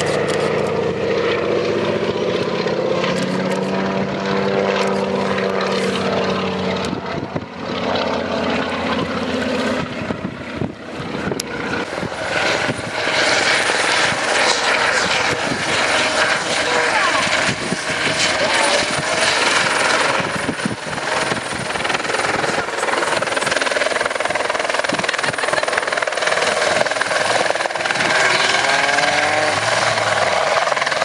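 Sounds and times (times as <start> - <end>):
helicopter rotor with high whine: 0.0 - 31.0
propeller plane engine droning: 0.0 - 31.0.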